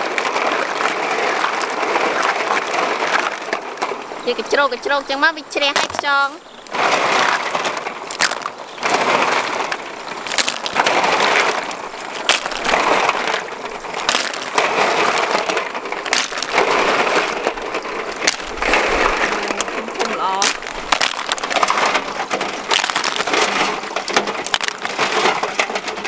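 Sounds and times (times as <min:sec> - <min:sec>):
snail shells clattering in basket: 0:00.4 - 0:26.0.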